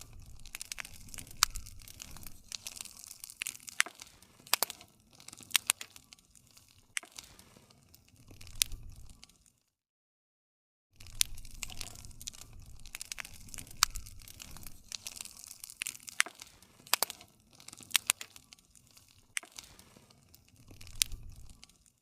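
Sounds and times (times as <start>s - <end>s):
low rumble of burning: 0.0s - 9.4s, 11.0s - 22.0s
campfire crackling: 0.0s - 9.6s, 11.0s - 22.0s
sharp pops and snaps: 0.0s - 9.6s, 11.0s - 22.0s.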